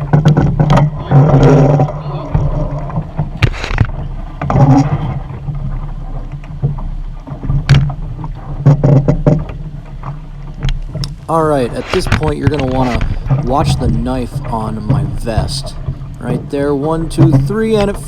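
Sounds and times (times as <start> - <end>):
water rushing along hull: 0.0 - 18.0
water splashes: 0.0 - 18.0
wind rumbling on microphone: 0.0 - 18.0.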